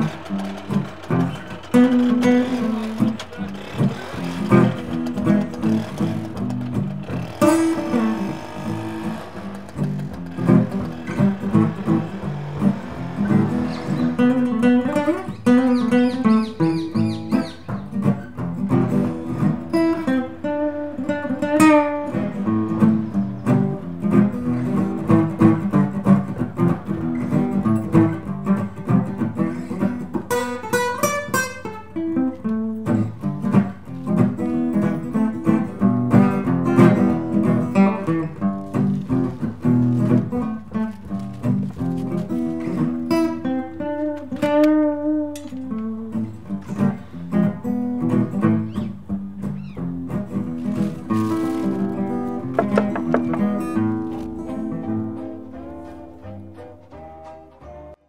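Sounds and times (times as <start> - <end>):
acoustic guitar picking melody: 0.0 - 58.0.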